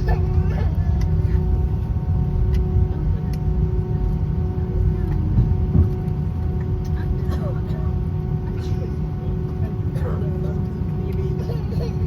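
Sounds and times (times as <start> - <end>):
faint passenger voices: 0.0 - 12.0
jet engines idling rumble: 0.0 - 12.0.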